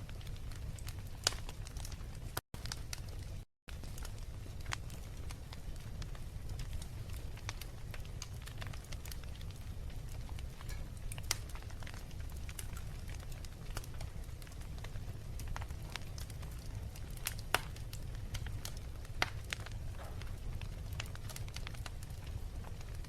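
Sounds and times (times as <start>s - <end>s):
fire crackles and pops: 0.0s - 23.0s
fire low rumble: 0.0s - 23.0s.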